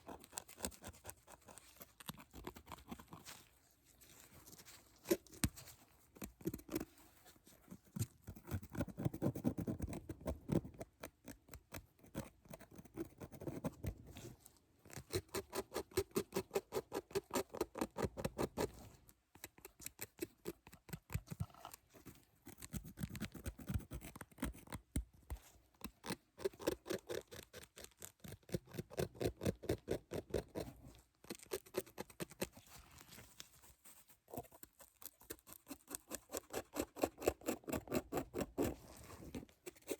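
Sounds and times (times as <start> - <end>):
close-miked tapping and scratching: 0.0 - 39.9.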